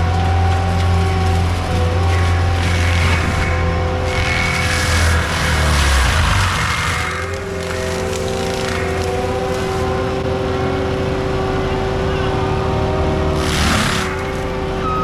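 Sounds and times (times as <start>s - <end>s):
track loader engine rumble: 0.0s - 15.0s.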